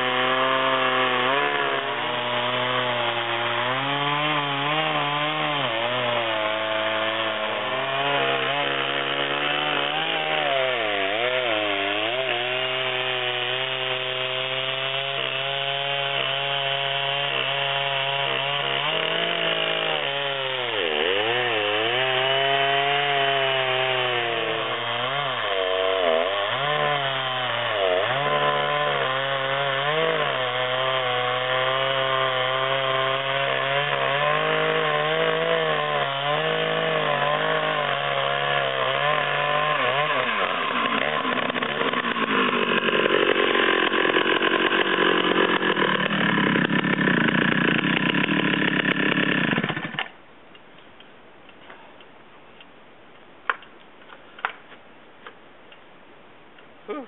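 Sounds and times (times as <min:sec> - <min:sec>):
chainsaw cutting log at full throttle: 0:00.0 - 0:50.2.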